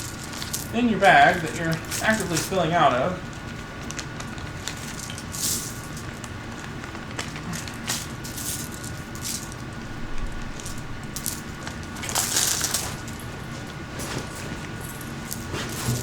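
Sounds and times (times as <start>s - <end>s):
bag crinkling and rustling: 0.0s - 16.0s.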